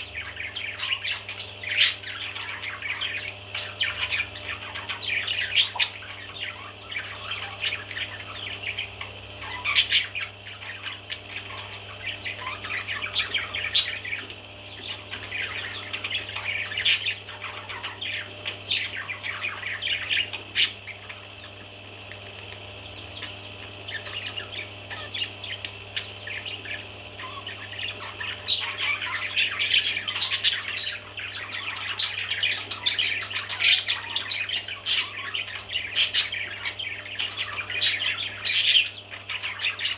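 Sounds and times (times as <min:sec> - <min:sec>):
baby parrots chirping and squawking: 0:00.0 - 0:21.7, 0:22.8 - 0:39.9
steady low hum: 0:00.0 - 0:39.9.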